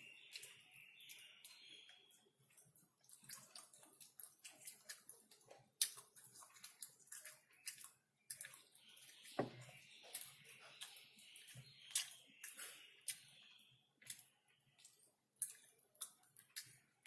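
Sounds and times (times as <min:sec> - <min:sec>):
wet chewing clicks and smacks: 0:00.1 - 0:17.0.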